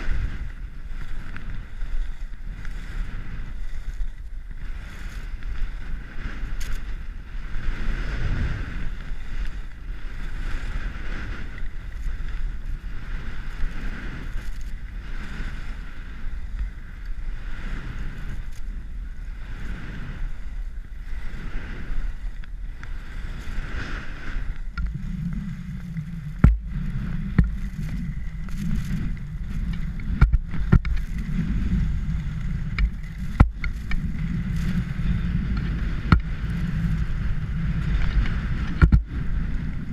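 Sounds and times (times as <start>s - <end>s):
deep steady rumble: 0.0s - 39.9s
skis scraping over snow: 0.0s - 39.9s
wind rushing over helmet: 0.0s - 39.9s.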